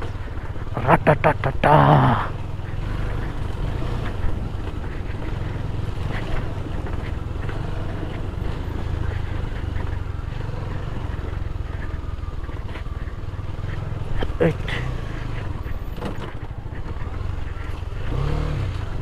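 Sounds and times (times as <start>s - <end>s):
motorcycle engine running steadily: 0.0s - 19.0s.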